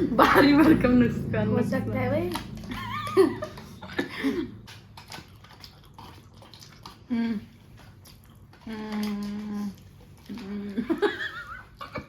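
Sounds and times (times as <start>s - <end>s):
chewing and sipping: 2.2s - 12.0s.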